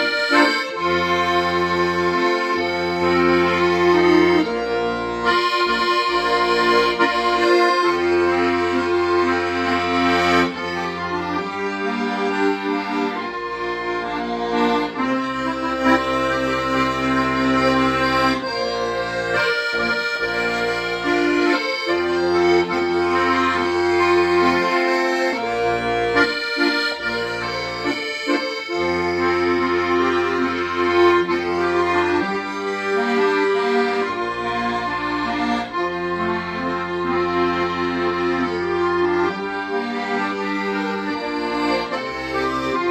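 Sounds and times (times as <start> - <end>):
accordion melody: 0.0 - 42.9.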